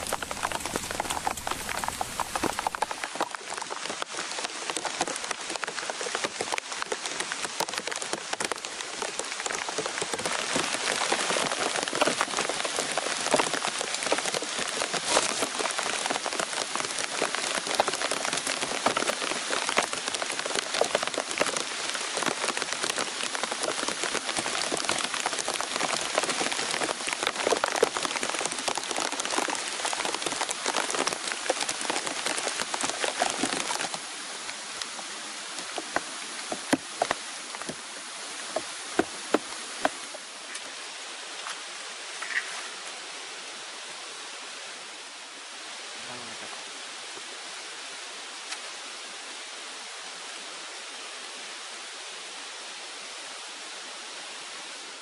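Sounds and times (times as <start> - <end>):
rain on plastic tarp: 0.0 - 55.0.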